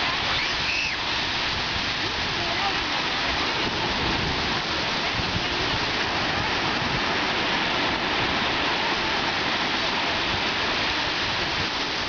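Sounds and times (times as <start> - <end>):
small waves breaking: 0.0 - 12.0.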